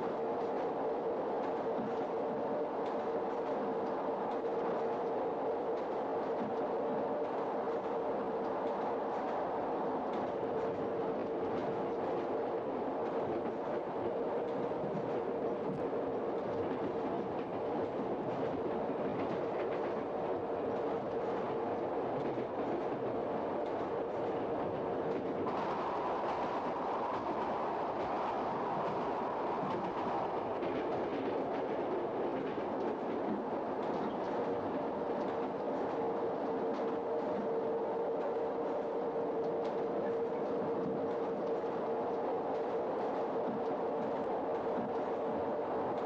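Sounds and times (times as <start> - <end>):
train running noise: 0.0 - 46.0.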